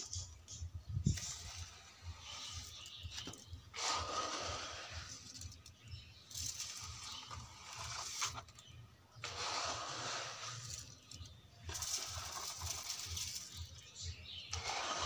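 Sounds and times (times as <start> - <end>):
metal bowl scraping wet concrete: 1.1 - 15.0.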